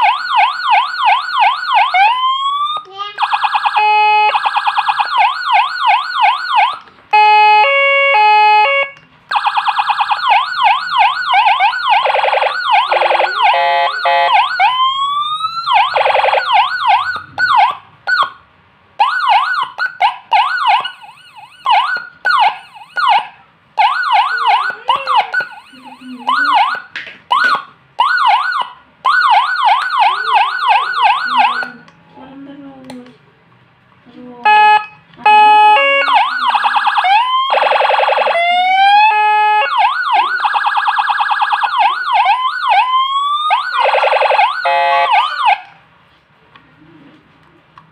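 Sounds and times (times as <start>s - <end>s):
electronic siren: 0.0s - 18.4s, 19.0s - 31.9s, 34.5s - 45.8s.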